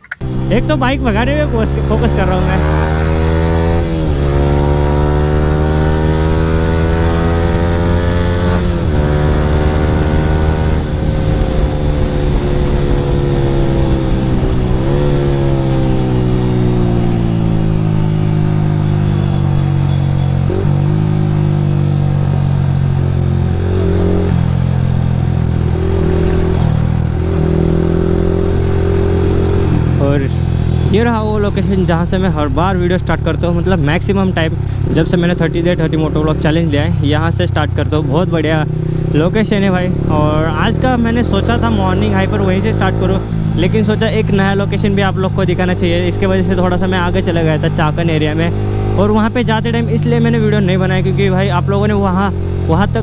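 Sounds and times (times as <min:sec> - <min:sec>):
motorcycle engine revving: 0:00.1 - 0:53.0.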